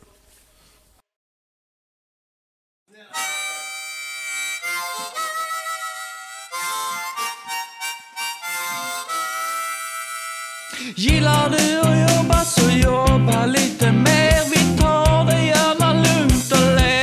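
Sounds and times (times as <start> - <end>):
harmonica playing: 3.0 - 17.0.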